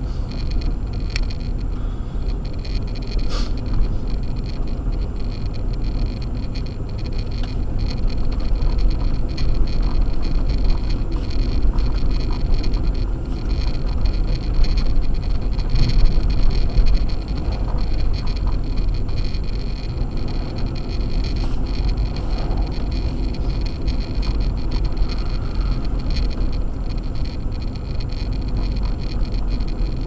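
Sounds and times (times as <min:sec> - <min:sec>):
car tyre and engine rumble: 0:00.0 - 0:30.0.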